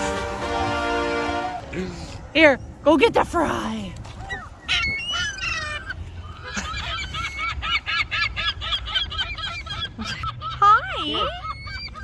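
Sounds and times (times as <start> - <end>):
seagulls calling: 0.0 - 12.0.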